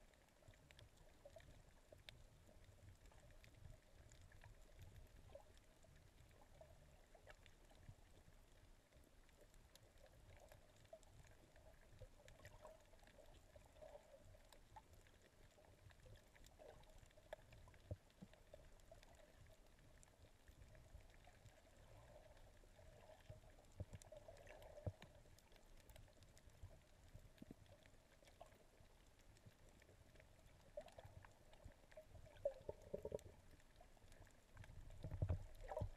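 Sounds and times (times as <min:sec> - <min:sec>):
muffled underwater rumble: 0:00.0 - 0:35.9
faint clicks: 0:00.1 - 0:35.9.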